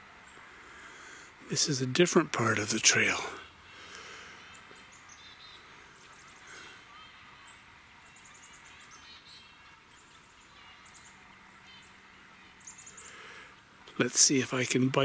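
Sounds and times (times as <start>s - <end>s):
low hush of woods: 0.0s - 7.0s, 8.9s - 15.0s
chickadees calling: 0.0s - 14.8s.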